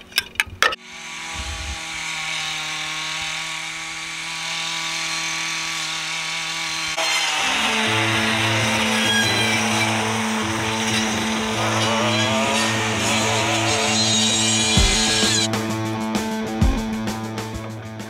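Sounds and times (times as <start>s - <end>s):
small engine running: 0.8s - 16.1s.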